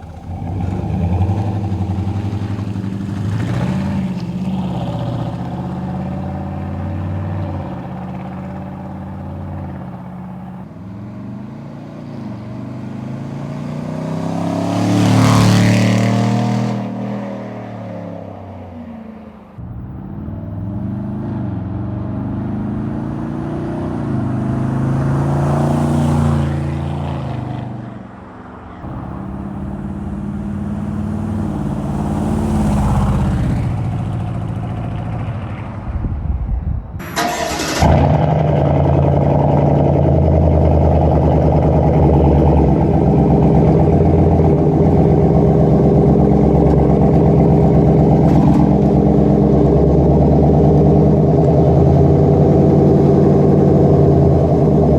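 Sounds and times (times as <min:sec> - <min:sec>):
engine exhaust revving: 0:00.0 - 0:17.6, 0:19.6 - 0:27.6, 0:28.8 - 0:54.9.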